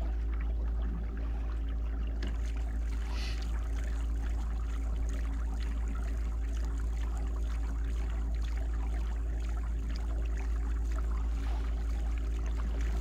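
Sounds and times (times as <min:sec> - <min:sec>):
water washing along hull: 0:00.0 - 0:13.0.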